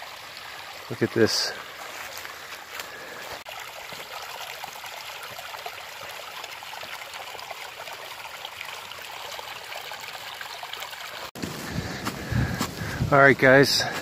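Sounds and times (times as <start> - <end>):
brook trickling over stones: 0.0 - 14.0.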